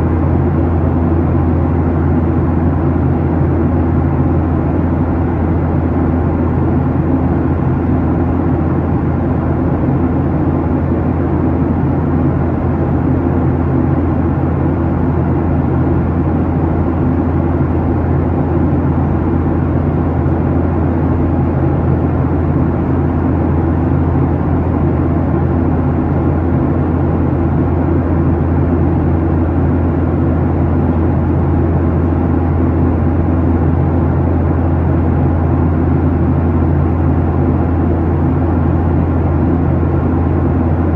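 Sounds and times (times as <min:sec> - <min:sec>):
low hum of jet engines: 0:00.0 - 0:40.9.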